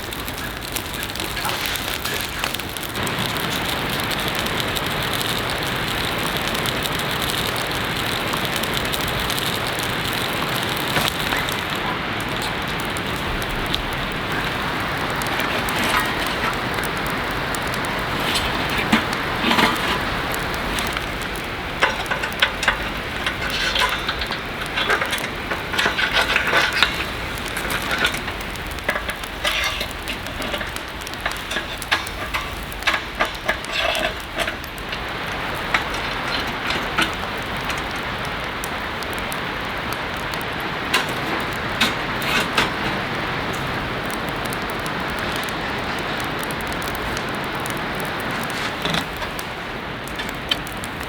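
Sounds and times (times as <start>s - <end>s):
heavy rain on a tent: 0.0s - 51.0s
sharp clicks and knocks: 0.0s - 51.0s.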